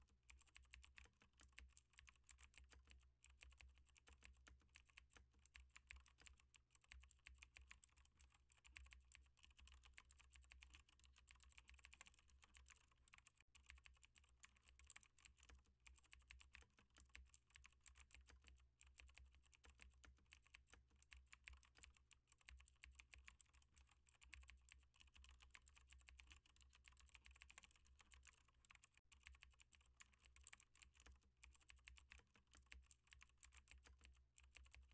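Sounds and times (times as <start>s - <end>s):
fast keyboard typing: 0.3s - 34.9s.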